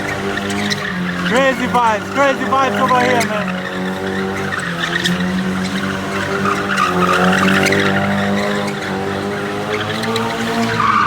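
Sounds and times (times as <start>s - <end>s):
car engine at high revs: 0.0s - 11.0s
tyres skidding and squealing: 0.0s - 11.0s.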